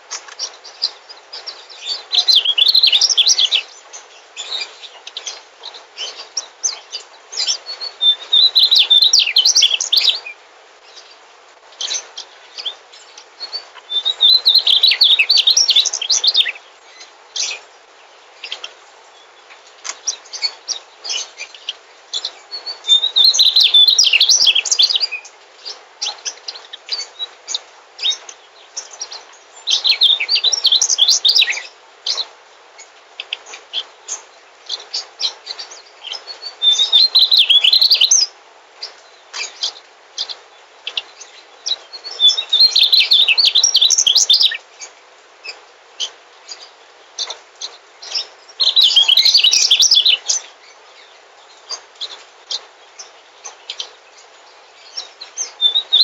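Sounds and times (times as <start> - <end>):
bird twittering: 0.1 - 11.2, 11.8 - 17.6, 18.4 - 56.0.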